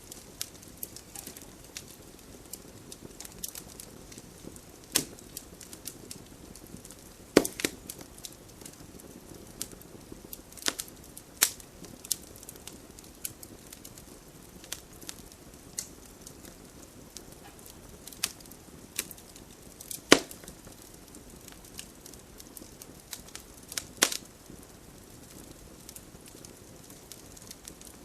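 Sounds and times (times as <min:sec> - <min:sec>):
campfire hissing: 0:00.0 - 0:28.0
wood crackling and popping: 0:00.0 - 0:28.0.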